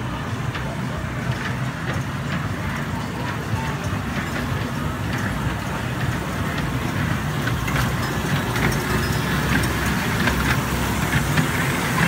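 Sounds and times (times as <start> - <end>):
ride train low rumble: 0.0 - 12.0.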